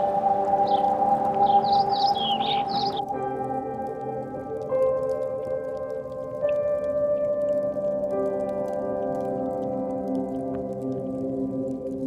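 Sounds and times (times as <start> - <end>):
slow ambient music: 0.0 - 12.0.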